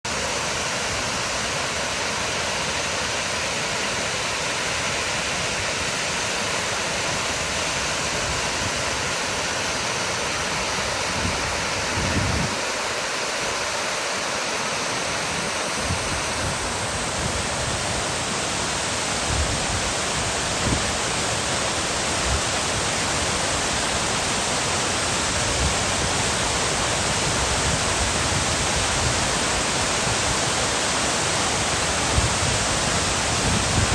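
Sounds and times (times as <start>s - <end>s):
waterfall splashing: 0.0s - 33.9s.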